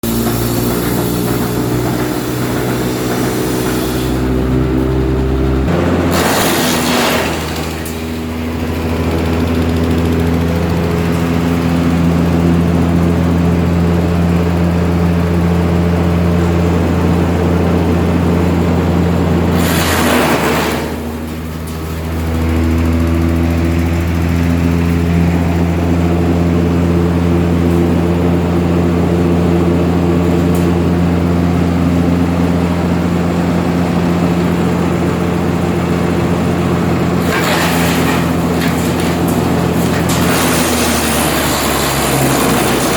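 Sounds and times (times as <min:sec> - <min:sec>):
wood chipper engine running: 0:00.0 - 0:42.9.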